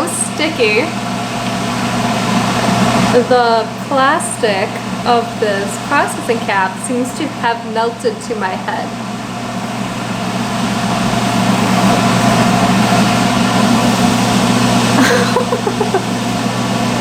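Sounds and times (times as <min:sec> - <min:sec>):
hood hair dryer running: 0:00.0 - 0:17.0.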